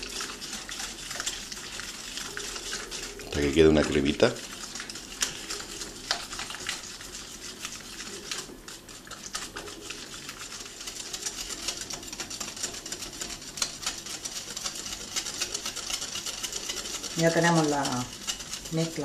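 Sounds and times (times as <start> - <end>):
whisk beating in a glass bowl: 0.0 - 19.0.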